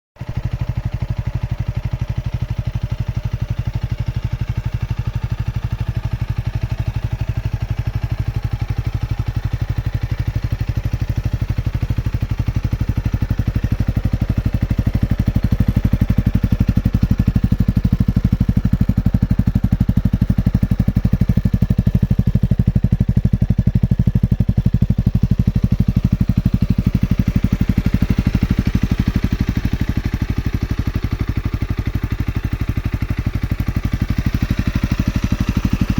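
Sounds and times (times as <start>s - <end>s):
motorcycle engine running at low revs: 0.2s - 35.9s.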